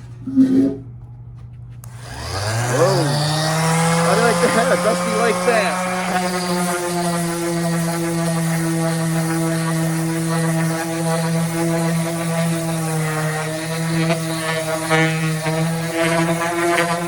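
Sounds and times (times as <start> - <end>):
orbital sander motor hum: 1.8 - 17.0
sanding pad scratching wood: 2.0 - 17.0.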